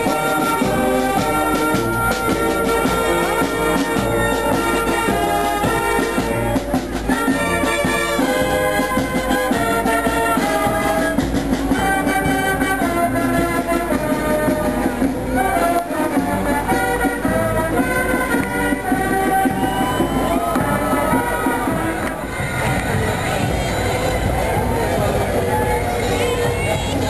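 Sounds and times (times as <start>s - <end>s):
brass horns holding notes: 0.0s - 27.0s
drum beat: 0.0s - 27.0s.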